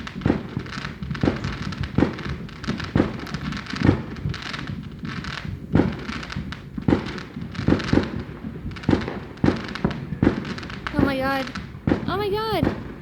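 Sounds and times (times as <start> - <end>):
deep firework booms: 0.0 - 13.0
fireworks crackling: 0.0 - 13.0.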